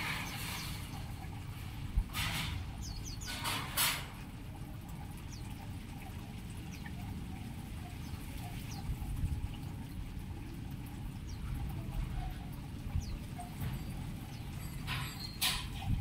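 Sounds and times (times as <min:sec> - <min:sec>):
birds chirping: 0:00.0 - 0:03.8, 0:04.5 - 0:16.0.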